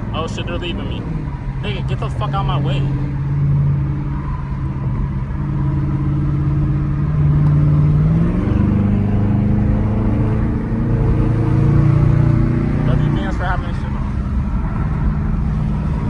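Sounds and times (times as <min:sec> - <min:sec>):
car engine pulling: 0:00.0 - 0:16.0.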